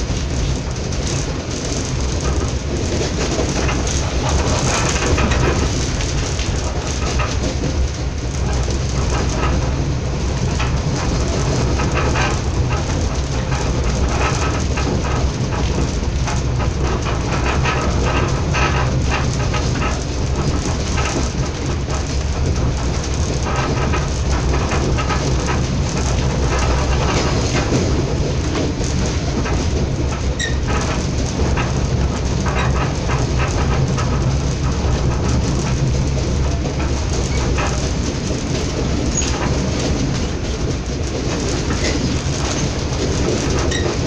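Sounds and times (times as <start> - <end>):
rattling and clicking: 0.0 - 44.0
train wheels rumbling on track: 0.0 - 44.0.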